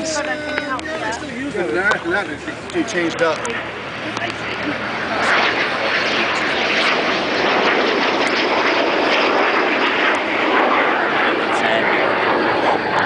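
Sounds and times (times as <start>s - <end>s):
airplane flying past: 0.0s - 13.0s.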